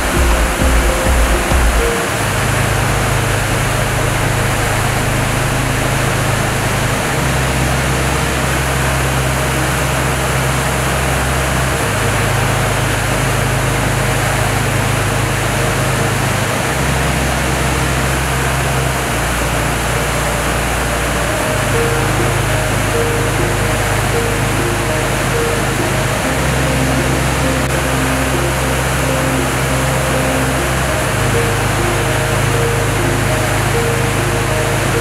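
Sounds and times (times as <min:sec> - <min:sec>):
low bass background music: 0:00.0 - 0:35.0
waterfall rushing: 0:00.0 - 0:35.0.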